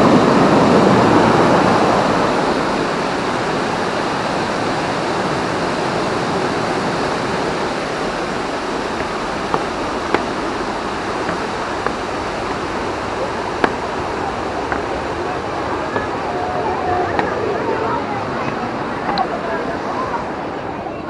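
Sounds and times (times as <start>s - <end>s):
fast-flowing river water: 0.0s - 21.0s.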